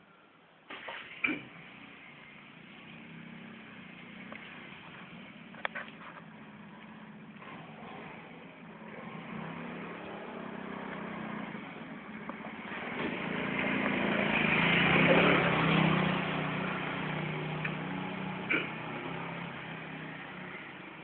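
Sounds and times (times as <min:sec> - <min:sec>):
vehicle engine passing by: 0:01.5 - 0:21.0.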